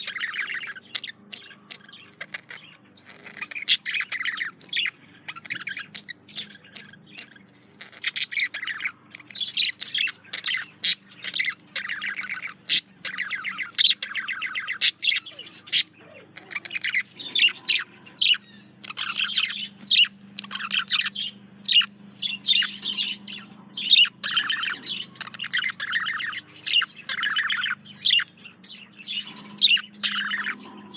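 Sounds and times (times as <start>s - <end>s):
budgerigar warbling chatter: 0.0s - 30.9s.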